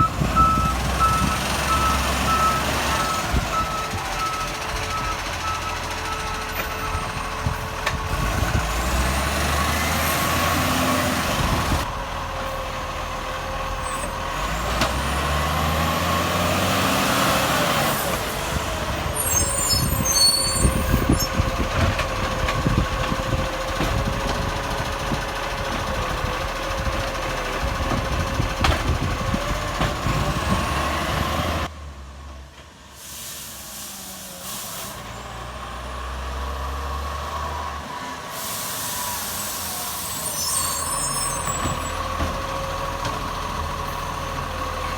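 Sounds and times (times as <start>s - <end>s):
garbage truck engine revving: 0.0s - 32.1s, 34.1s - 44.9s.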